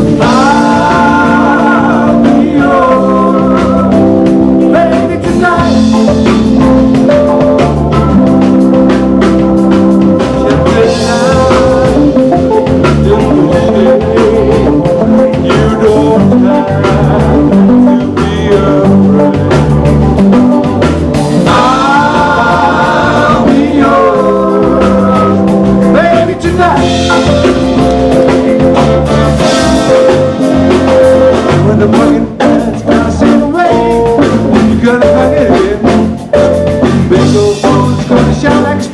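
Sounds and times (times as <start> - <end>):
live band playing: 0.0 - 38.9.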